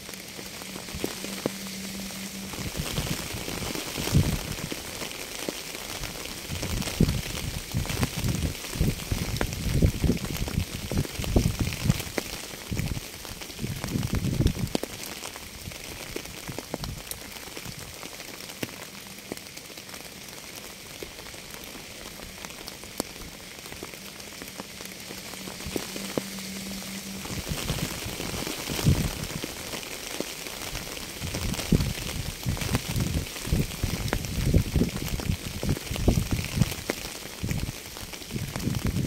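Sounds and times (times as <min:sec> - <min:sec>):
uneven low rumbles: 0:00.0 - 0:14.8, 0:21.1 - 0:37.7
rain hiss: 0:00.0 - 0:39.0
raindrop ticks: 0:00.0 - 0:39.0.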